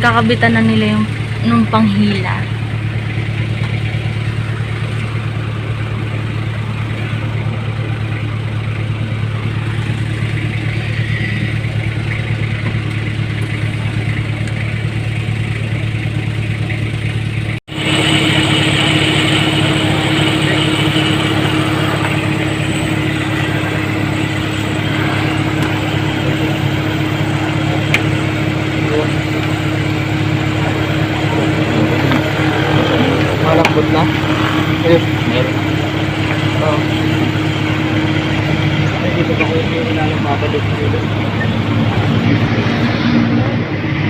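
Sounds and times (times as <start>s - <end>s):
higher engine hum: 0.0s - 44.0s
vehicle engine idling: 0.0s - 44.0s.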